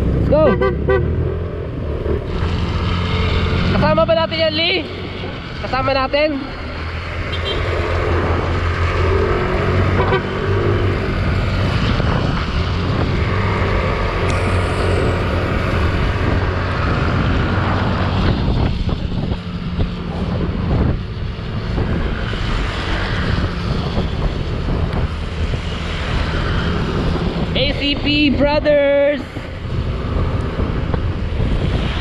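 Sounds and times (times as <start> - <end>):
motorcycle engines running: 1.4 - 32.0.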